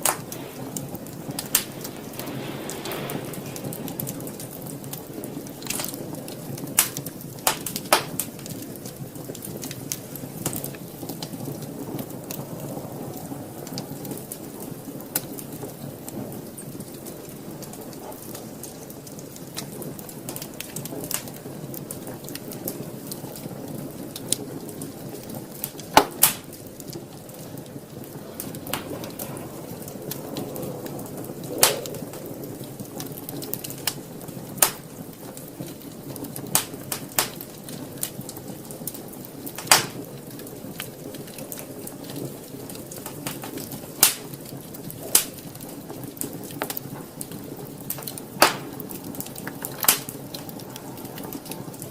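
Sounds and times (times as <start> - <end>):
fire flames rushing: 0.0 - 51.9
wood fire crackles and pops: 0.0 - 51.9.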